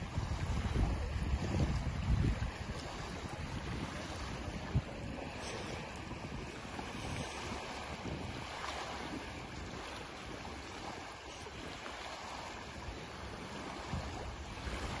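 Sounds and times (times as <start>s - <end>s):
small waves washing: 0.0s - 15.0s
wind gusting on microphone: 0.0s - 15.0s.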